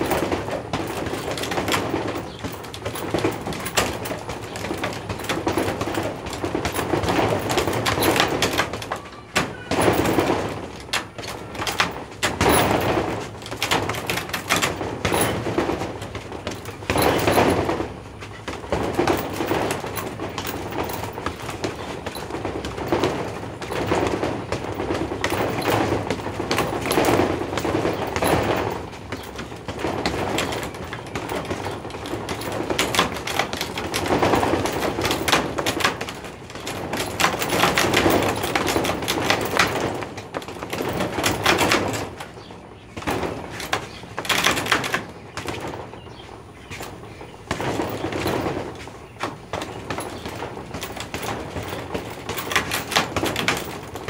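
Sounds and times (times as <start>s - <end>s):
fists punching heavy bag: 0.0s - 45.9s, 46.7s - 54.0s.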